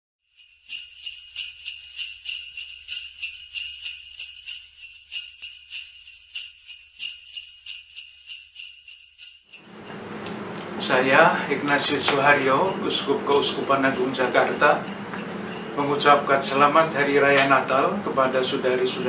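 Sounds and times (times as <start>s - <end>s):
jingle bells shaken: 0.2s - 19.0s.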